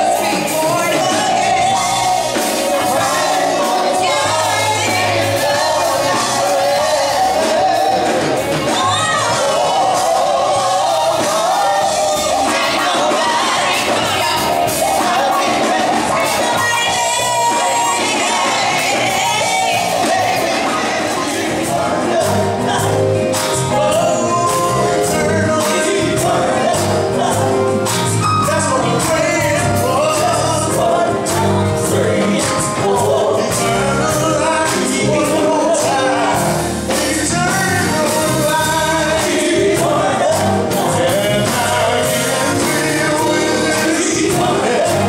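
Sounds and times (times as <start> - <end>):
backing band with steady beat: 0.0 - 45.0
gospel vocalists singing: 0.0 - 45.0.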